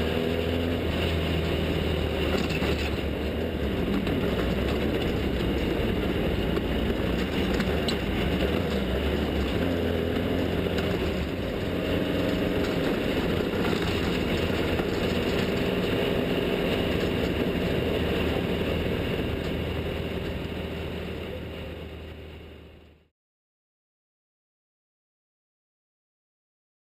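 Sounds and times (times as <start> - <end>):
vehicle engine running: 0.0 - 23.1.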